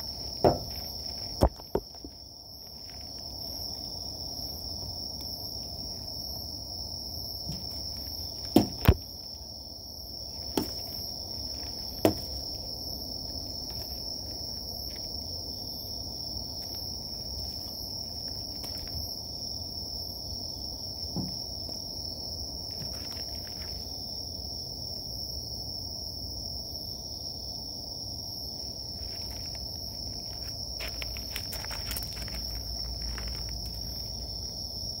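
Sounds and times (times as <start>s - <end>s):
night insects chorus: 0.0s - 35.0s.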